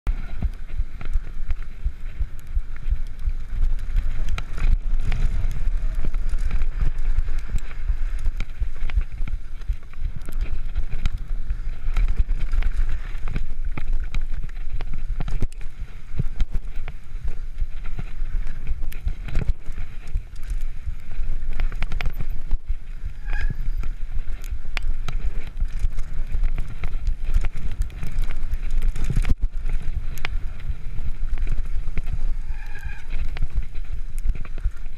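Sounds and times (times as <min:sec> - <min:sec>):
bike rattling and knocking: 0:00.1 - 0:34.9
tyres running over dry dirt: 0:00.1 - 0:34.9
wind rumbling on microphone: 0:00.1 - 0:34.9.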